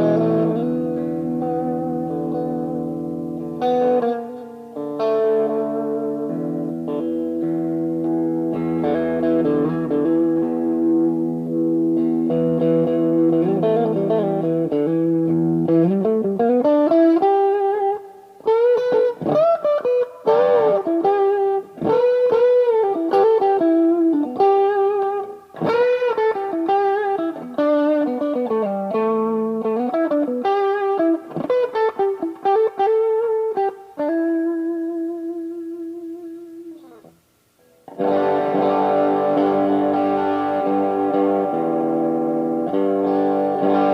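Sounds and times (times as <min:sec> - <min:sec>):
electric guitar through an amp: 0:00.0 - 0:43.9.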